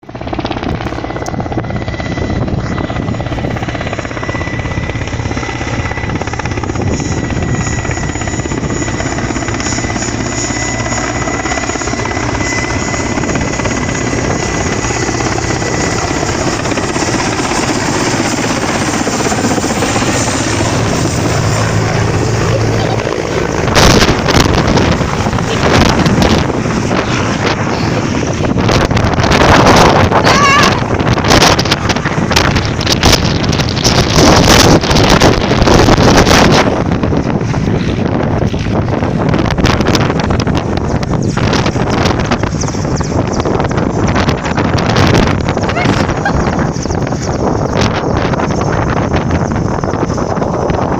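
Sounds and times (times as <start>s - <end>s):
helicopter running: 0.0s - 50.9s
wind gusts buffeting microphone: 0.0s - 50.9s.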